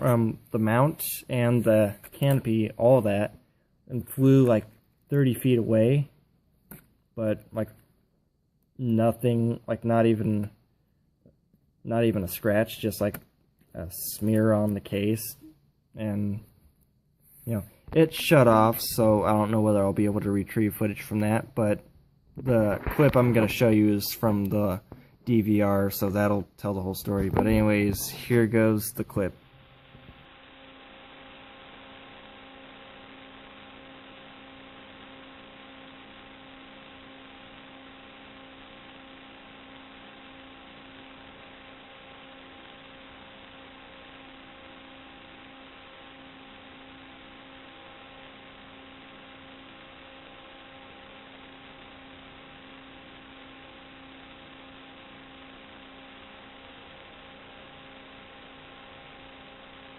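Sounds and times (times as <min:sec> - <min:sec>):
electrical hiss and hum: 0:00.0 - 0:59.9.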